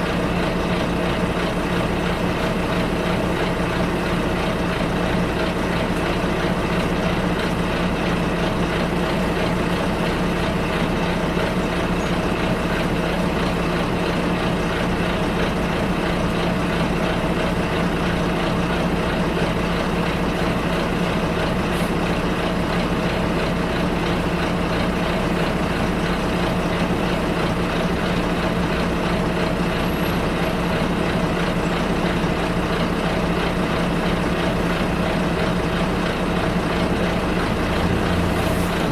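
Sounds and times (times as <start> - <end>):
diesel engine running: 0.0 - 38.9
rumble of road noise: 0.0 - 38.9.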